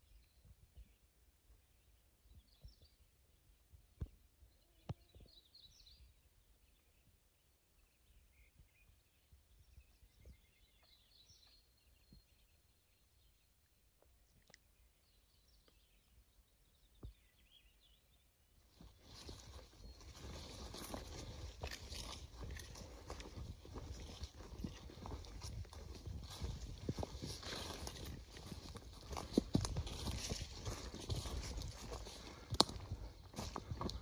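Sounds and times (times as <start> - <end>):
songbird chirps: 0.0 - 34.0.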